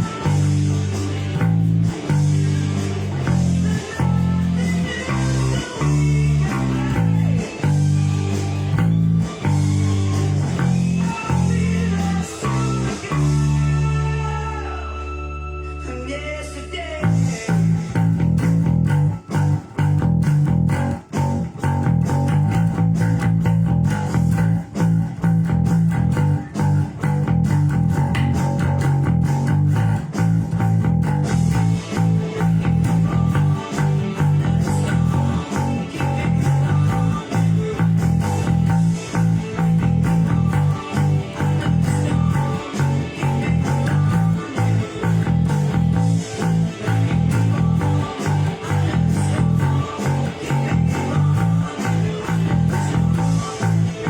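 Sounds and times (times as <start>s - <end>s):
electric bass guitar bassline: 0.0s - 54.0s
rock music with electric guitar: 0.0s - 54.0s.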